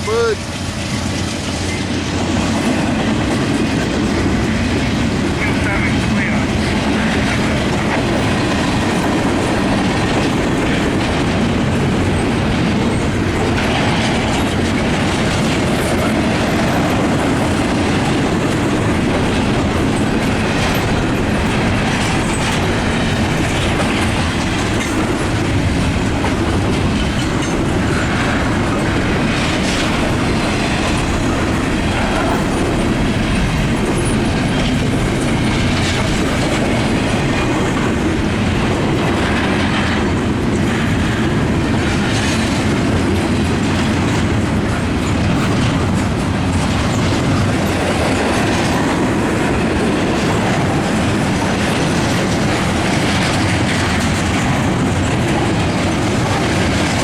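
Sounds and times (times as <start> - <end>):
freight train rumbling past: 0.0 - 57.0
wheels clacking over rail joints: 0.4 - 57.0.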